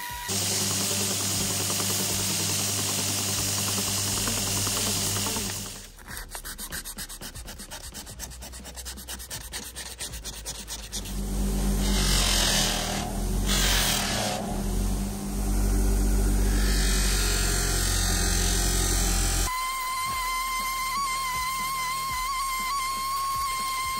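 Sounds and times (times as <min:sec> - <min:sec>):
bench grinder humming: 0:00.0 - 0:06.6, 0:10.0 - 0:23.9
wood grinding on sanding wheel: 0:00.1 - 0:23.9
sandpaper rubbing wood: 0:00.3 - 0:23.9.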